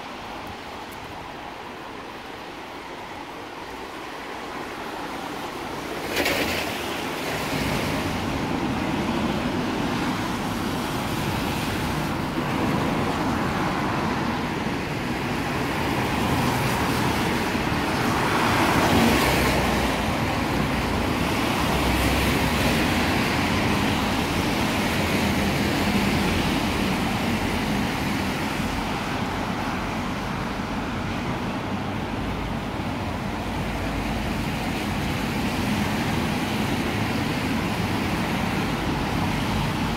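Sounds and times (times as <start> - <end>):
cars passing on wet road: 0.0 - 39.9.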